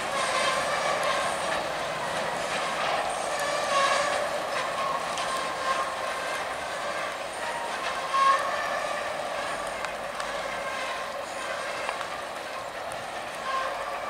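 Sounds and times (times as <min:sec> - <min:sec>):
metallic wheel squeal: 0:00.0 - 0:14.0
train wheels clicking over rail joints: 0:00.0 - 0:14.0.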